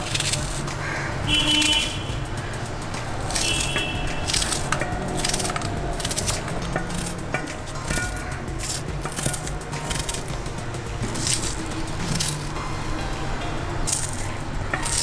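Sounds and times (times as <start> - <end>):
knife slicing on wooden board: 0.0 - 2.1, 3.0 - 10.3, 11.0 - 12.6, 13.8 - 15.0.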